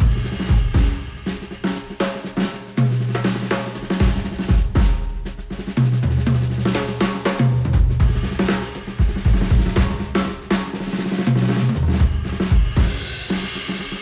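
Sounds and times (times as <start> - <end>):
drum kit beat: 0.0 - 14.0.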